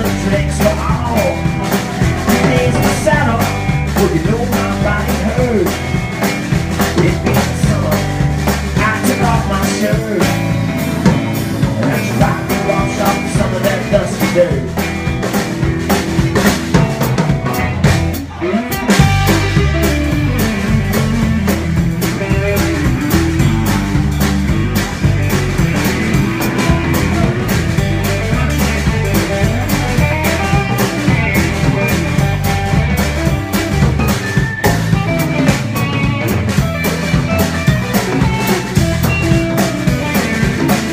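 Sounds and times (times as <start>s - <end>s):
drum kit: 0.0s - 40.9s
electric guitar: 0.0s - 40.9s
upright bass: 0.0s - 40.9s.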